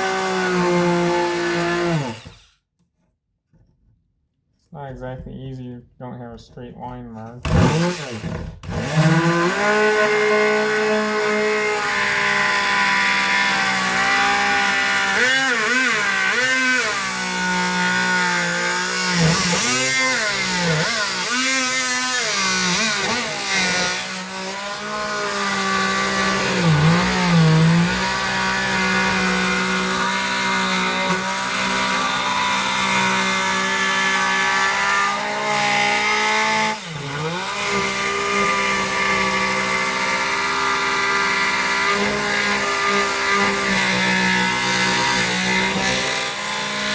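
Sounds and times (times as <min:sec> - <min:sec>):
oscillating saw cutting plywood: 0:00.0 - 0:02.6, 0:07.4 - 0:46.9.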